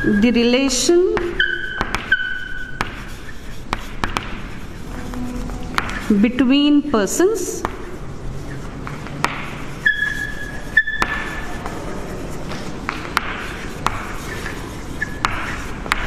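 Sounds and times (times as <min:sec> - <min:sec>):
chalk tapping on blackboard: 0:00.0 - 0:06.2, 0:07.5 - 0:16.0
chalk squeak: 0:00.0 - 0:06.7, 0:08.2 - 0:16.0
chalk scratching on blackboard: 0:00.0 - 0:16.0.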